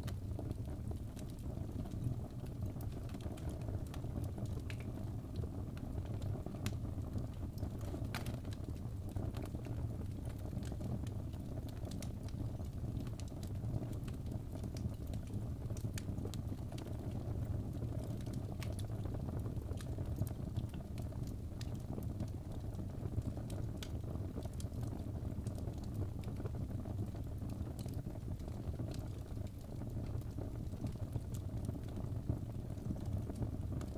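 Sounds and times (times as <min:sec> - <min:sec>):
fire crackling and popping: 0:00.0 - 0:33.9.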